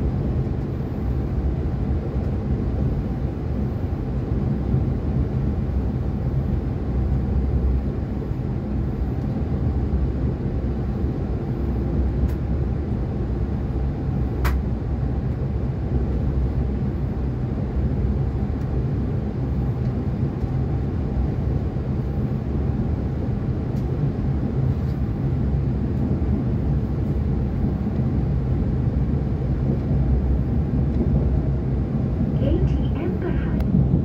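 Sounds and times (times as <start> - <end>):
electric train rumble inside cabin: 0.0 - 34.0.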